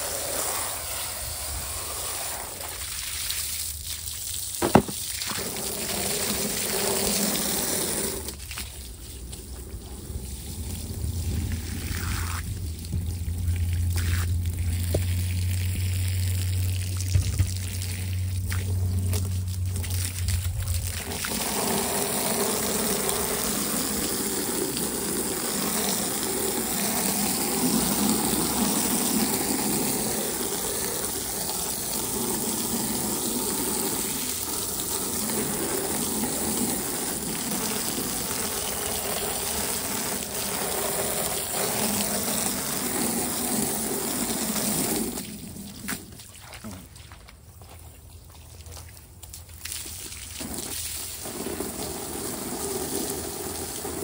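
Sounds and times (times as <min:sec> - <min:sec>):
hose water splashing: 0:00.0 - 0:54.0.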